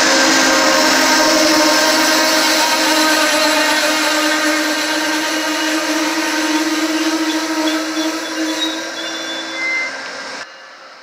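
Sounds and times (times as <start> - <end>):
diesel locomotive drone and whine: 0.0 - 11.0
train cars rolling on rails: 0.0 - 11.0.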